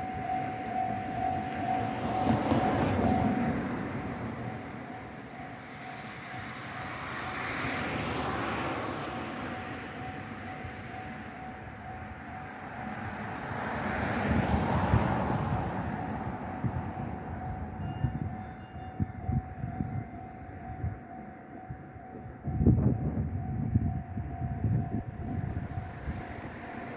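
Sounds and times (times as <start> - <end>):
level-crossing warning alarm ringing: 0.0 - 26.9
rumble of passing traffic: 0.0 - 26.9.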